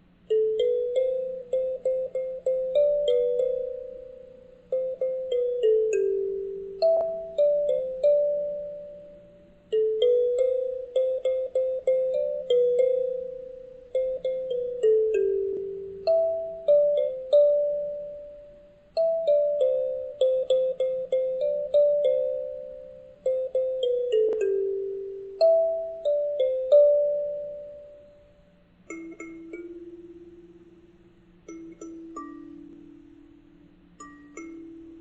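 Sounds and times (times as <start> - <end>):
slow piano-like melody: 0.0 - 30.1.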